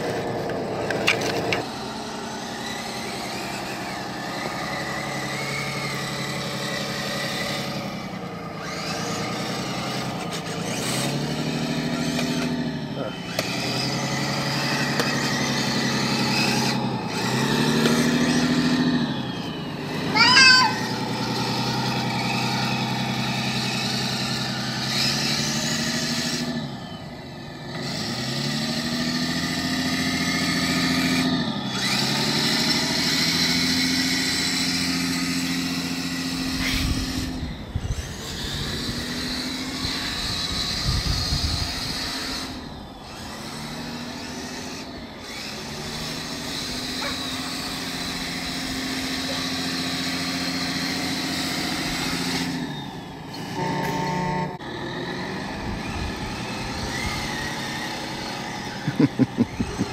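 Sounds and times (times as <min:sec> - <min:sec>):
electric motors and gearboxes whining: 0:00.0 - 0:59.9.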